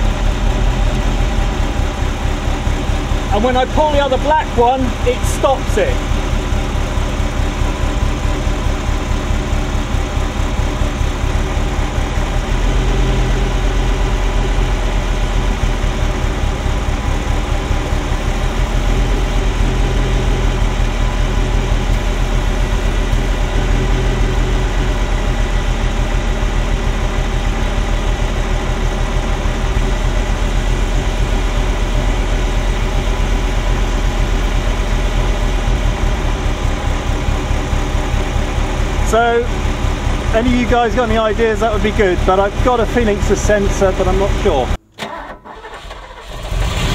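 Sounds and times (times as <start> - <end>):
car engine idling roughly: 0.0 - 46.9.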